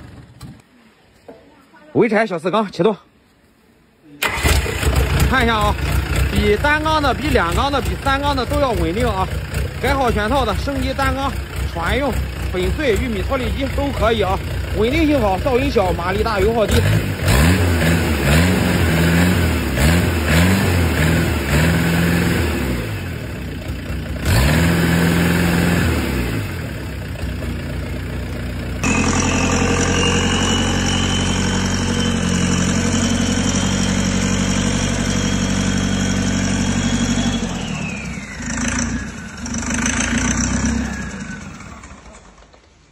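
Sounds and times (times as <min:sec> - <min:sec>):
small diesel engine revving: 0:04.2 - 0:42.7
diesel engine running with whine: 0:04.2 - 0:42.9.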